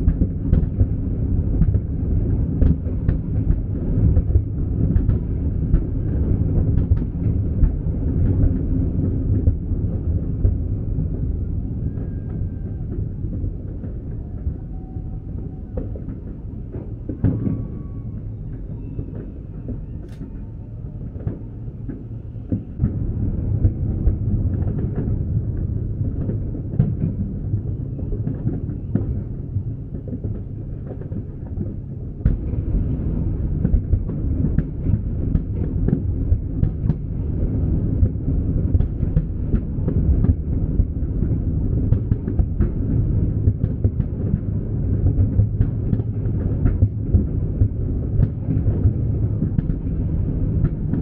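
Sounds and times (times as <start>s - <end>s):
fireworks booming: 0.0s - 51.0s.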